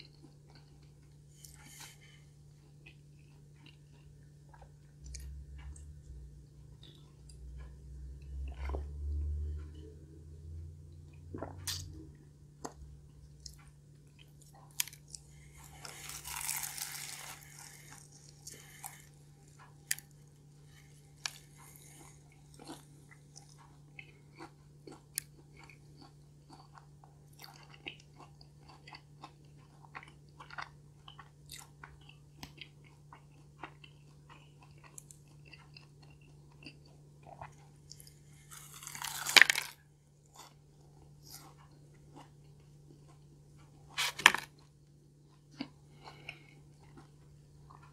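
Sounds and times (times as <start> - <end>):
chewing crispy pastry: 0.0 - 47.9
steady low hum: 0.0 - 47.9.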